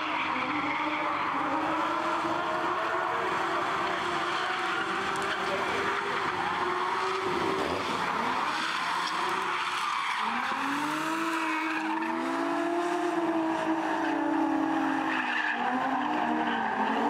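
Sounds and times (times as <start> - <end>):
car engines revving high: 0.0 - 17.0.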